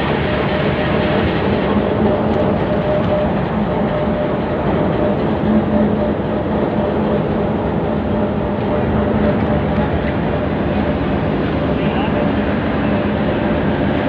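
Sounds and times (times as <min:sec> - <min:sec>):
locomotive engine idling: 0:00.0 - 0:14.0.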